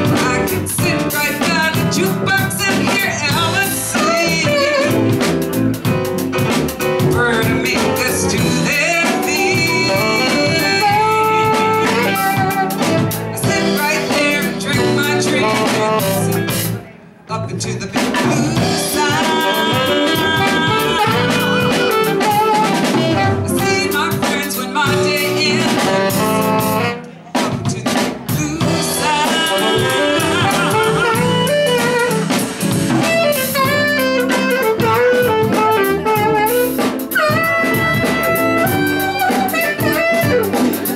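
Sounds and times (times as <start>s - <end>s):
band playing blues-jazz: 0.0s - 40.9s.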